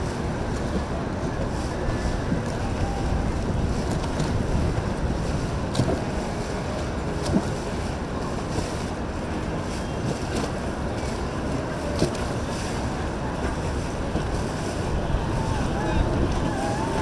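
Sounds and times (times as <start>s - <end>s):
boat engines rumbling: 0.0s - 17.0s
wind on microphone: 0.0s - 17.0s.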